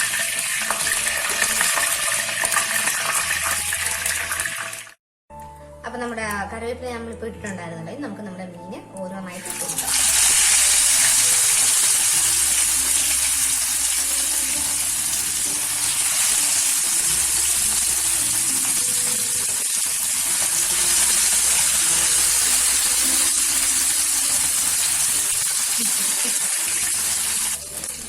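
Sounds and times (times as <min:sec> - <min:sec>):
fish sizzling in hot oil: 0:00.0 - 0:05.0, 0:09.4 - 0:28.0.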